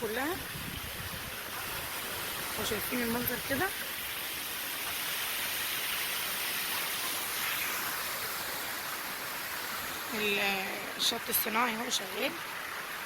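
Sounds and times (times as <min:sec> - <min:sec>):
running splashing water: 0:00.0 - 0:13.0.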